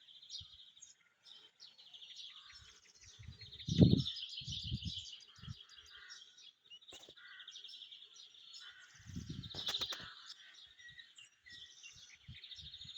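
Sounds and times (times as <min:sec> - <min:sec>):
songbirds chirping and trilling: 0:00.0 - 0:12.9.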